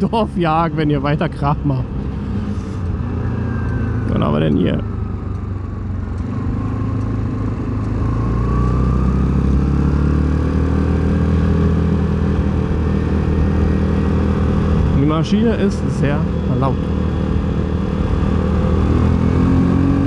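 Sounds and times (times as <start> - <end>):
quad engine accelerating: 0.6 - 20.0.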